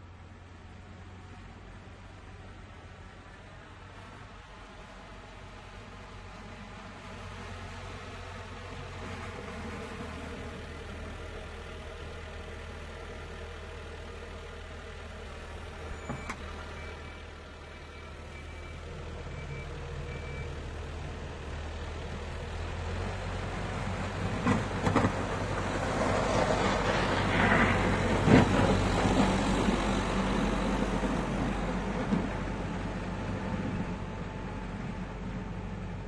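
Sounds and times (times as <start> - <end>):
tractor engine idling: 0.0 - 36.0.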